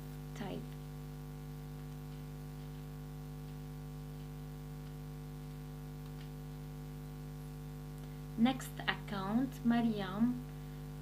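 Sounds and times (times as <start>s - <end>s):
electrical hum with tones: 0.0s - 11.0s.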